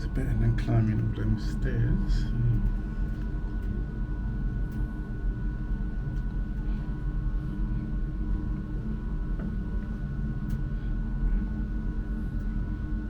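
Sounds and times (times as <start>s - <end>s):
high steady hum: 0.0s - 13.0s
lift low rumble: 0.0s - 13.0s.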